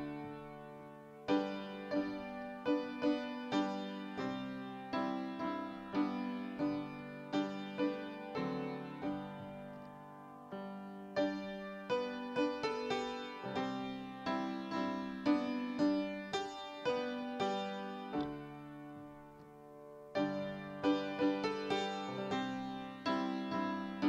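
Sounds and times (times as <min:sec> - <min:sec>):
slow gentle piano piece: 0:00.0 - 0:24.0.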